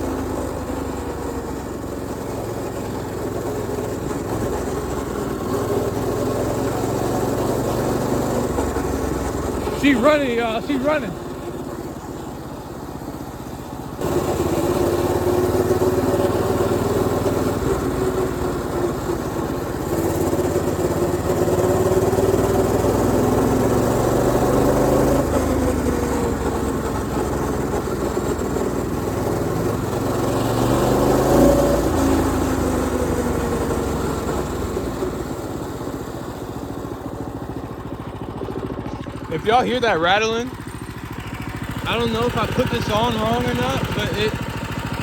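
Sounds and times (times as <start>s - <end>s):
mini bike engine running: 0.0s - 45.0s.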